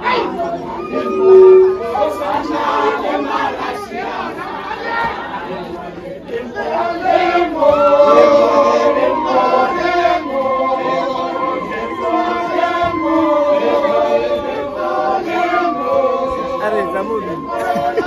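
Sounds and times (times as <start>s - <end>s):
group singing in chorus: 0.0s - 18.0s.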